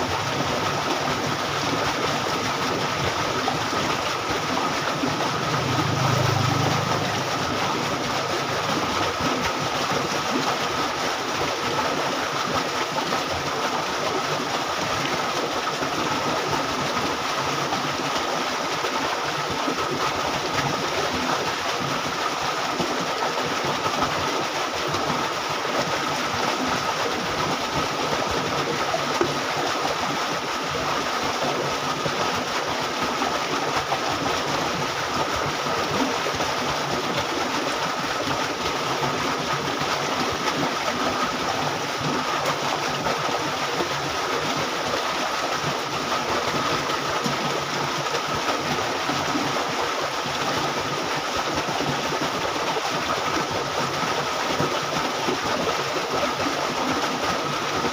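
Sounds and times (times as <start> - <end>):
water rushing along canal: 0.0 - 57.9.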